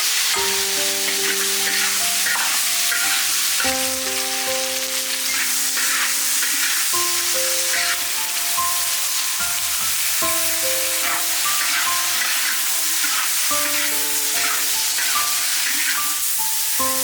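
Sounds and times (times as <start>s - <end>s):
food sizzling in a pan: 0.0s - 17.0s
soft background music: 0.1s - 17.0s.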